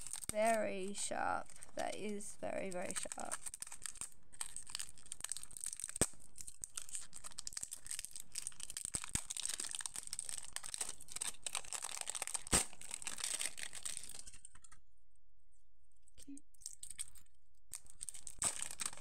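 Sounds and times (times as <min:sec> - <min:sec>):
plastic wrapping crinkling and tearing: 0:00.0 - 0:14.8, 0:16.6 - 0:19.0.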